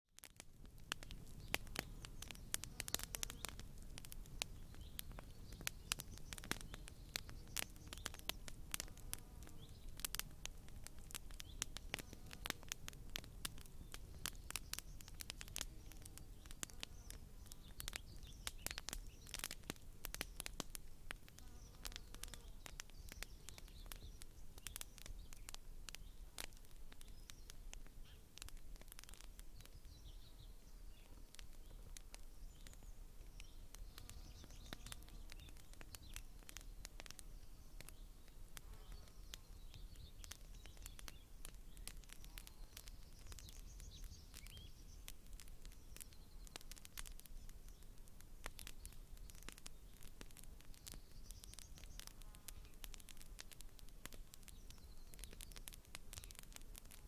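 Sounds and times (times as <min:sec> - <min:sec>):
bonfire crackling: 0:00.2 - 0:57.0.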